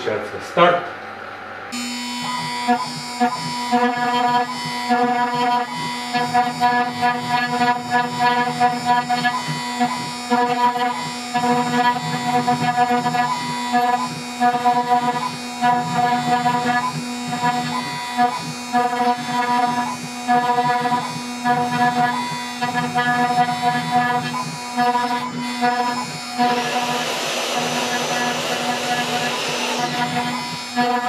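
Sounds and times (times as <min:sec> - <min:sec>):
engraving bit whine: 0:01.7 - 0:31.0
router spindle hum: 0:01.8 - 0:31.0.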